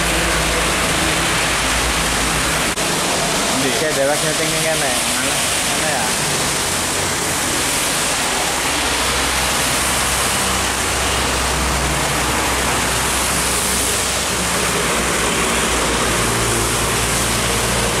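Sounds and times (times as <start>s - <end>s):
rain hiss: 0.0s - 18.0s
truck diesel engines droning: 0.0s - 18.0s
tyres on wet asphalt: 0.0s - 18.0s.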